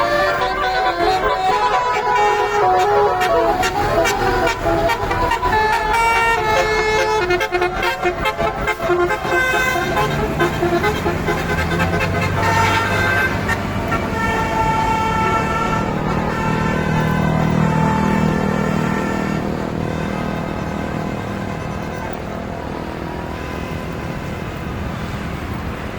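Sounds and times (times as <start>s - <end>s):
bus engine low hum: 0.0s - 25.9s
musical bus horns: 0.0s - 25.9s.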